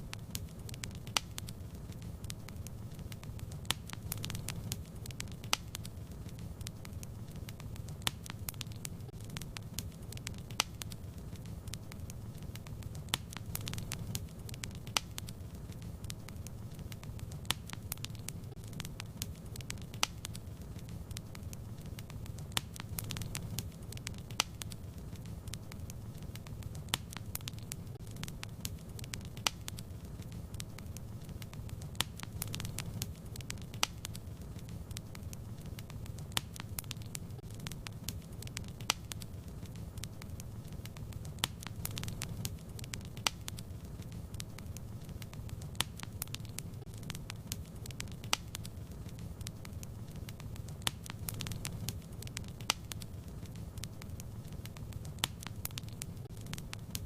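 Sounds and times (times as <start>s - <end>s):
fire crackling and popping: 0.0s - 57.0s
fire flames rumbling: 0.0s - 57.0s.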